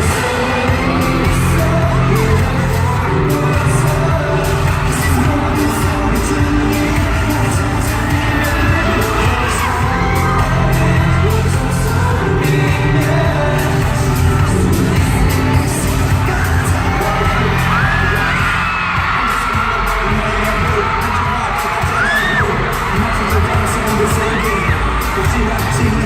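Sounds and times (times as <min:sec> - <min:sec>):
pop song with singing: 0:00.0 - 0:26.0.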